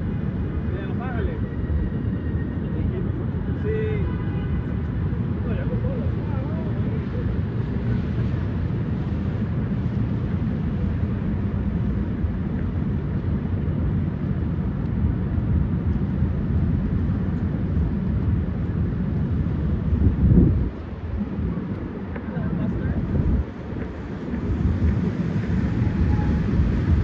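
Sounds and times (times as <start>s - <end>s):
low street ambience rumble: 0.0s - 27.0s
wind buffeting microphone: 4.6s - 27.0s.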